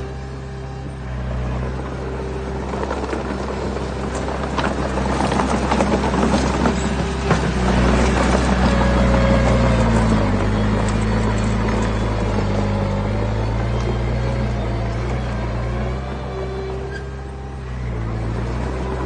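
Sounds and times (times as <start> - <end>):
diesel machinery engine running: 0.0 - 19.0.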